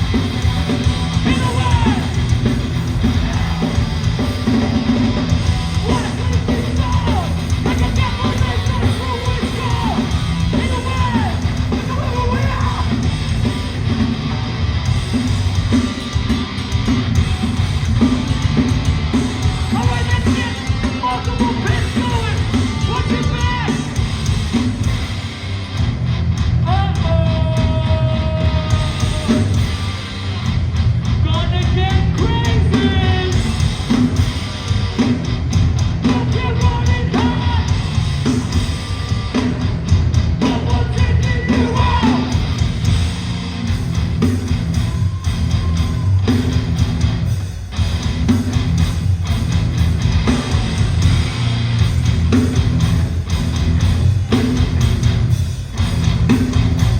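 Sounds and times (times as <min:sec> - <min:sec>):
yelled vocals: 0:00.0 - 0:25.7, 0:26.5 - 0:56.9
distorted guitars: 0:00.0 - 0:56.9
drum kit: 0:00.0 - 0:56.9.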